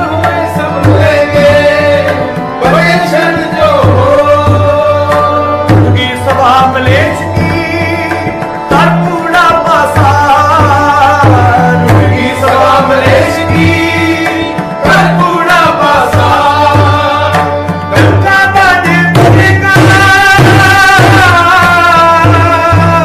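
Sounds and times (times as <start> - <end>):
tabla strokes: 0.0 - 23.0.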